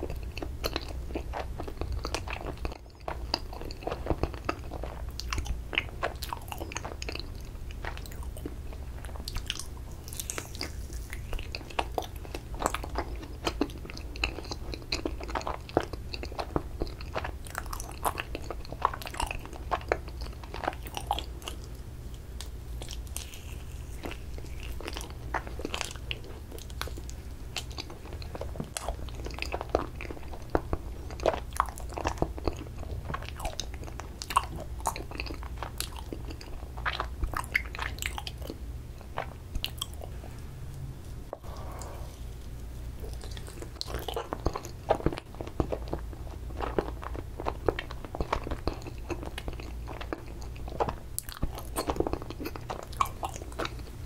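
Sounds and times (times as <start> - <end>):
chewing with wet mouth clicks: 0.0 - 40.2, 43.0 - 54.0
steady low hum: 0.0 - 54.0.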